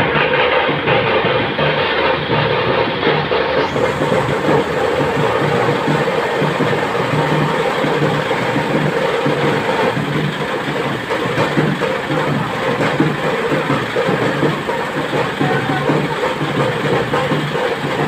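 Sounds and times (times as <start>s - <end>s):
engine running steadily: 0.0s - 18.0s
street noise: 0.0s - 18.0s.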